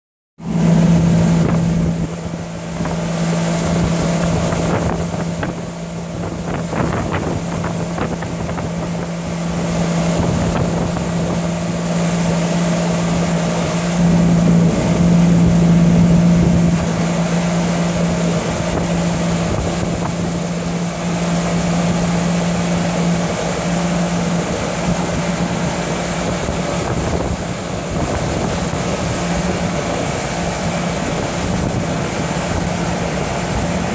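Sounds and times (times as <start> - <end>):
outboard motor running: 0.4 - 33.9
wind and water rushing: 0.4 - 33.9.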